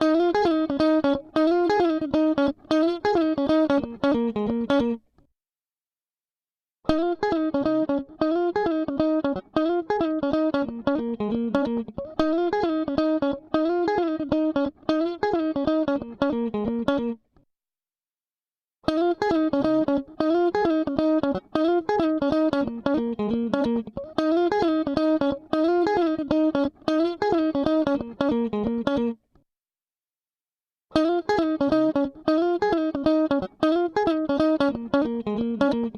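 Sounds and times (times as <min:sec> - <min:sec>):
guitar picking single notes: 0:00.0 - 0:05.0, 0:06.9 - 0:17.2, 0:18.9 - 0:29.2, 0:31.0 - 0:35.9.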